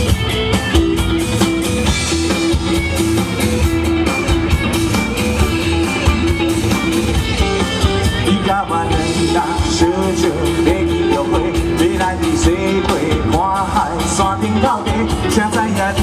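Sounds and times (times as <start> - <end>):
band playing pop music: 0.0 - 16.0
bass and drums with steady beat: 0.0 - 16.0
guitar: 0.0 - 16.0.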